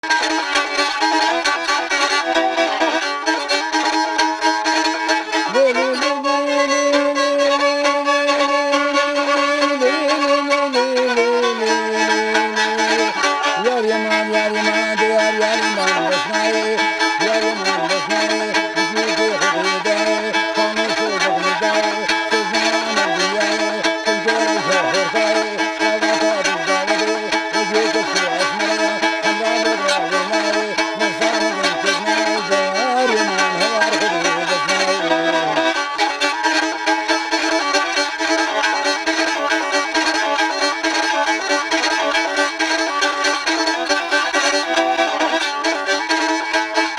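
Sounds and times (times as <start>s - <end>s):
bowed fiddle melody: 0.0s - 46.9s.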